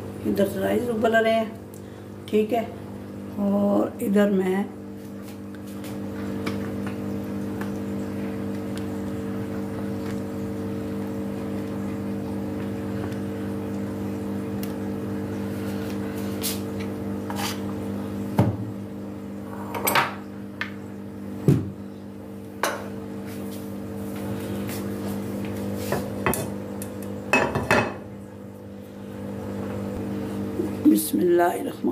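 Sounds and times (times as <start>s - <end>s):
kitchen appliance motor hum: 0.0s - 31.9s.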